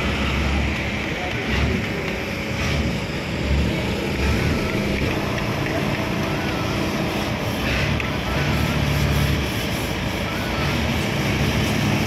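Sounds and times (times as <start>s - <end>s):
city traffic rumble: 0.0s - 12.0s
engine low hum: 0.0s - 12.0s.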